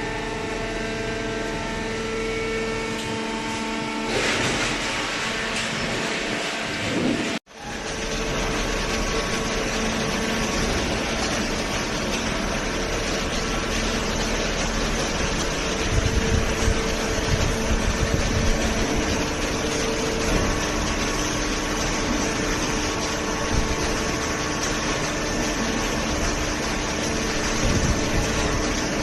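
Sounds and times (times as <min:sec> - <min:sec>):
baler motor and pump running: 0:00.0 - 0:29.0.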